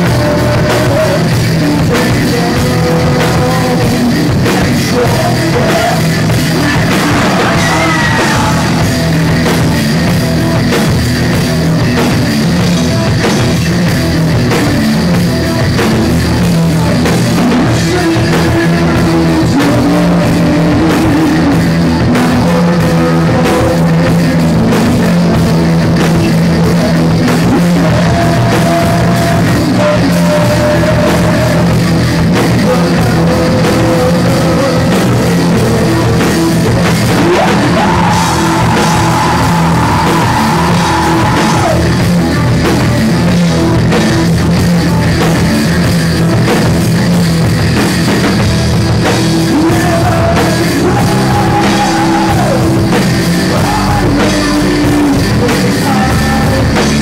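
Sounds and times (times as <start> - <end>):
person singing into a microphone: 0.0 - 47.0, 48.9 - 57.0
bass guitar: 0.0 - 57.0
drum kit with cymbal crashes: 0.0 - 57.0
electric guitars: 0.0 - 57.0.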